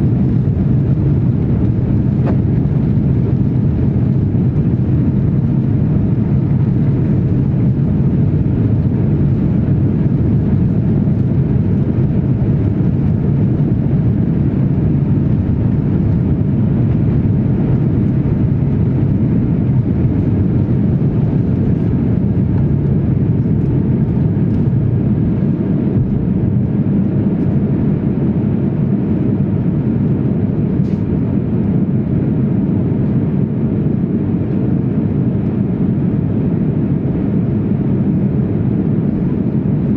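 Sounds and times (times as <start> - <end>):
jet engines low rumble in cabin: 0.0 - 39.9.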